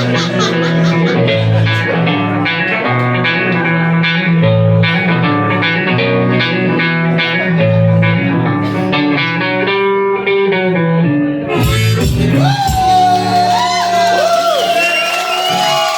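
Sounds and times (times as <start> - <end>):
blues guitar riff: 0.0 - 13.6.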